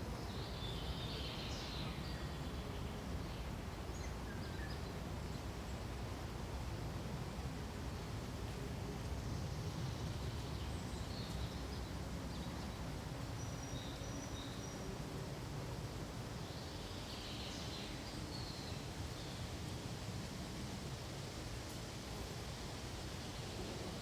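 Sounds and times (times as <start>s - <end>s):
wind rustling through pine trees: 0.0s - 24.0s.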